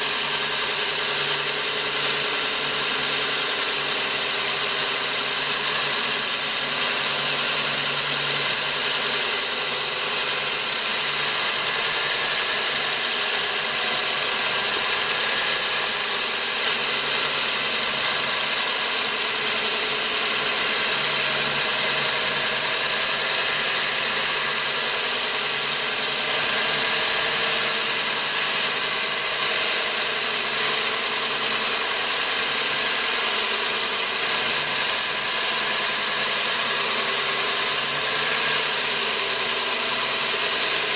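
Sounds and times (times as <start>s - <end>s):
core drill motor hum: 0.0s - 40.9s
drill bit cutting hiss: 0.0s - 40.9s.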